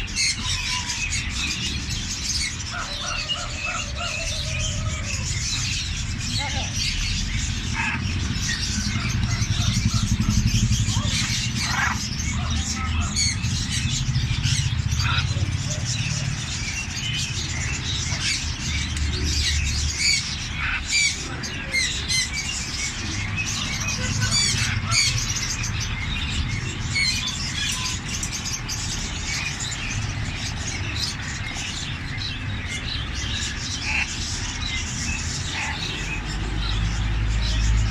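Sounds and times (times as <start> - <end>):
caged birds chirping: 0.0 - 37.9.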